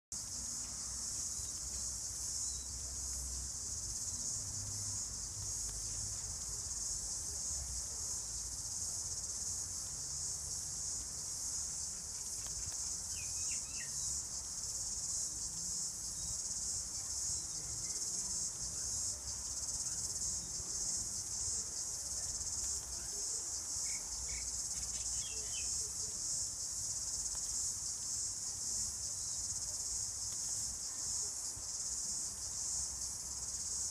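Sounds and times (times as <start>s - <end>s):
high-pitched insect chorus: 0.2s - 33.9s.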